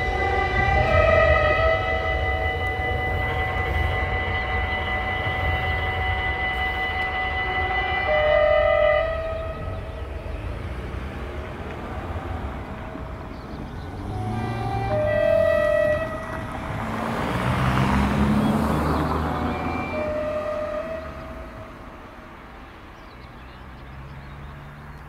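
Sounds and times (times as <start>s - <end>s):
train horn blast: 0.0s - 22.2s
train rumbling over bridge: 0.0s - 25.0s.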